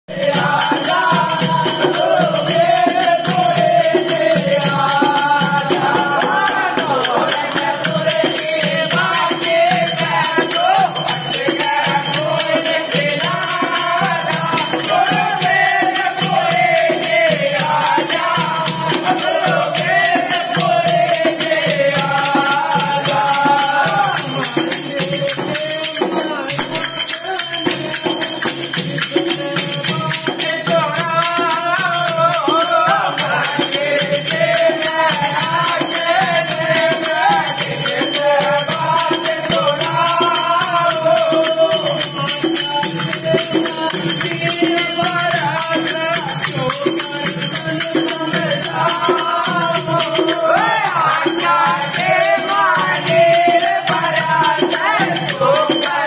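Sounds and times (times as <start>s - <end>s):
person singing folk song: 0.1s - 56.0s
rattling hand percussion: 0.1s - 56.0s.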